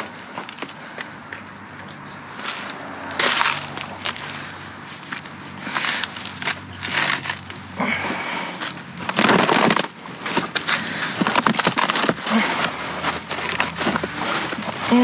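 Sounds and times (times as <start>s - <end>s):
trash bags crunching and rustling: 2.4s - 15.0s.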